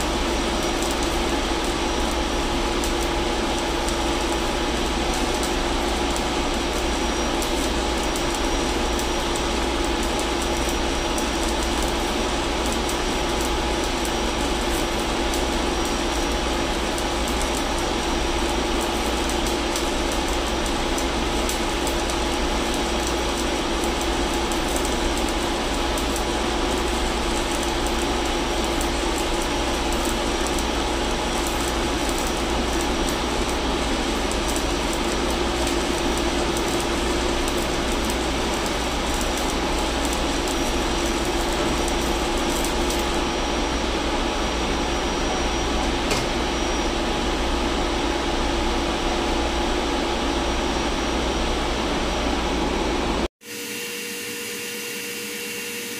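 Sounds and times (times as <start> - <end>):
electric arc welding crackle: 0.0 - 53.3
engine-room machinery drone: 0.0 - 55.9.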